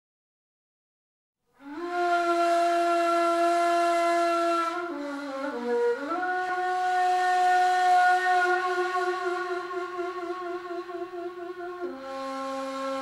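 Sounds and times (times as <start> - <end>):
breathy reed flute: 1.6 - 13.0.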